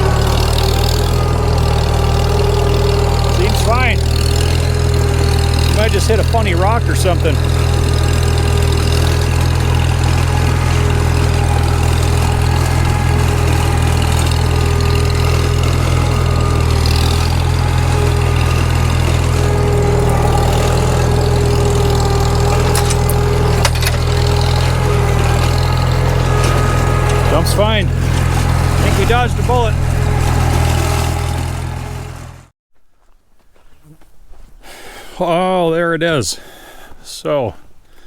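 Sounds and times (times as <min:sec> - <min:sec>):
tractor engine running loudly: 0:00.0 - 0:32.5.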